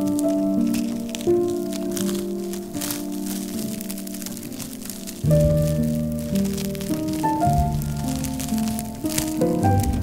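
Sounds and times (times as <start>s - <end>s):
slow instrumental music: 0.0s - 10.0s
wood fire crackling: 0.0s - 10.0s.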